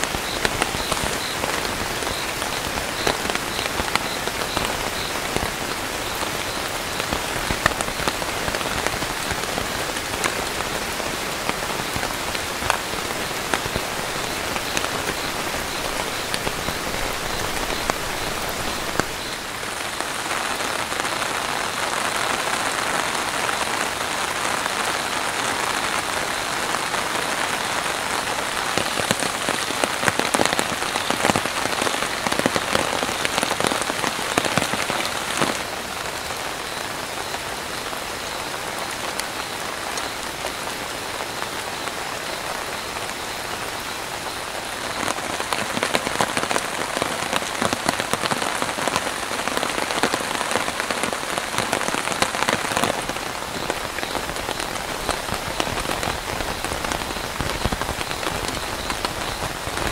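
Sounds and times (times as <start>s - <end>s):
heavy rain on a tarp: 0.0s - 59.9s.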